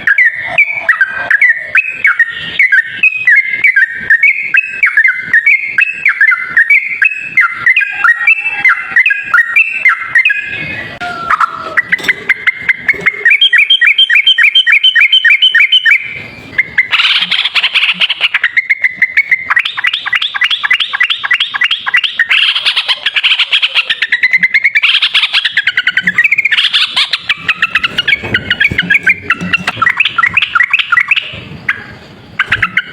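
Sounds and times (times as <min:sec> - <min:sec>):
bird singing rapid chatter: 0:00.0 - 0:32.9.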